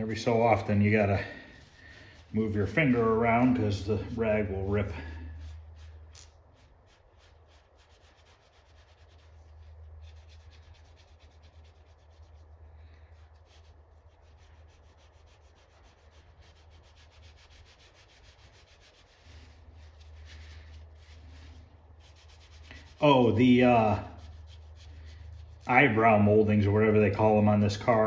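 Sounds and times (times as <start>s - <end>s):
rag scrubbing metal emblem: 0.0s - 26.2s
low steady hum: 0.0s - 28.0s.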